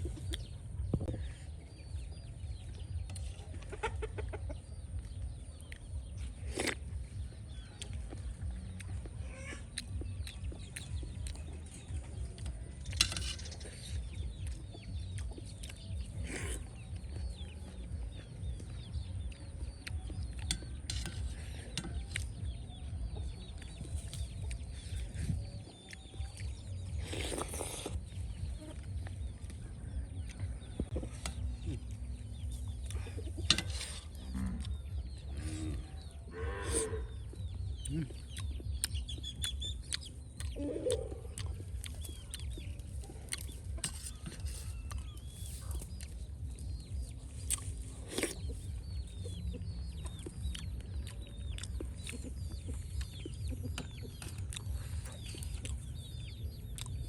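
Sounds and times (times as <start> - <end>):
chickens clucking: 0.0 - 57.0
steady low rumble: 0.0 - 57.0.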